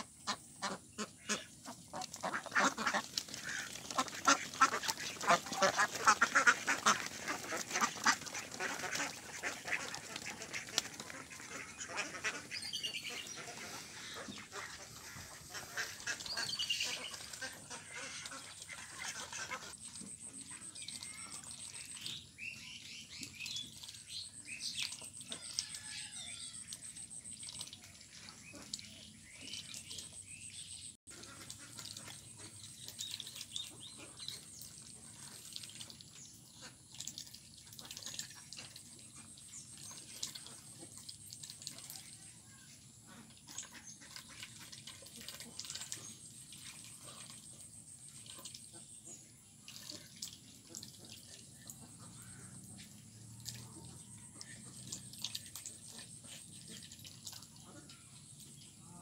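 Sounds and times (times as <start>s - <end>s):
duck dabbling in water: 0.2s - 30.4s, 31.1s - 58.2s.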